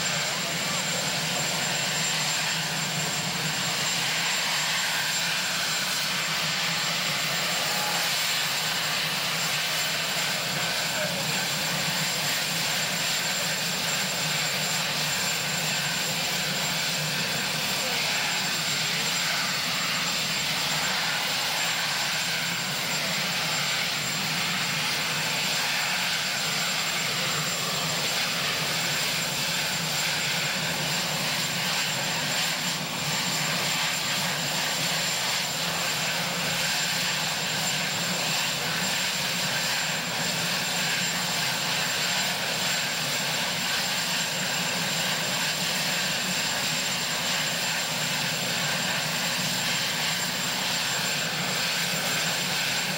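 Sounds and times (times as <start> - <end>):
helicopter engine rush: 0.0 - 52.9.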